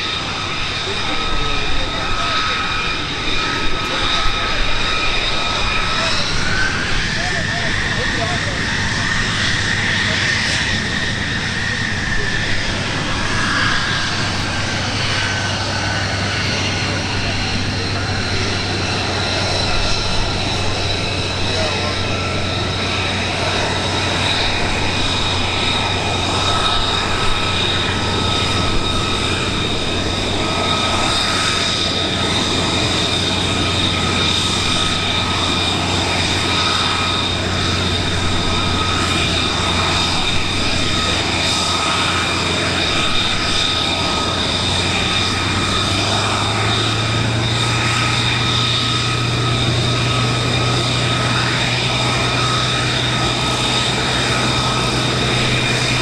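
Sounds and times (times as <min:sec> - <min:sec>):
aircraft engine whine and hum: 0:00.0 - 0:56.0.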